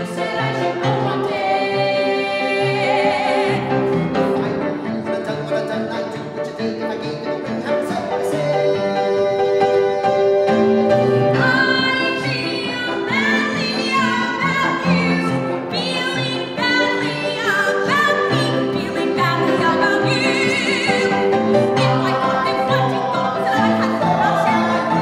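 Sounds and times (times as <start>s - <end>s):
man and woman singing duet: 0.0s - 25.0s
piano accompaniment: 0.0s - 25.0s.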